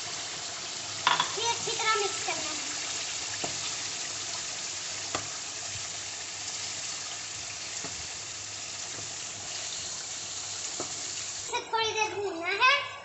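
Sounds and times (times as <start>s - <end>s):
food sizzling in a pan: 0.0s - 12.5s.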